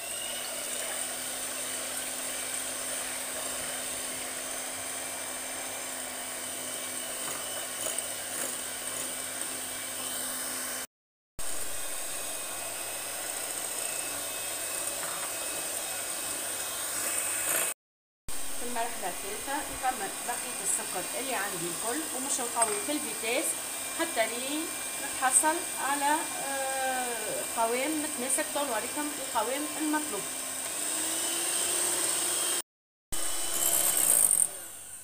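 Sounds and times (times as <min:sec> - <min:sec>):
electric hand mixer whining: 0:00.0 - 0:35.0.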